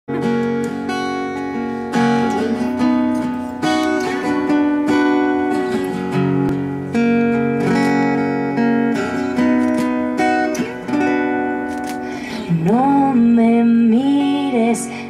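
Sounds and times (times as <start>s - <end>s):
acoustic guitar chords: 0.1s - 15.0s.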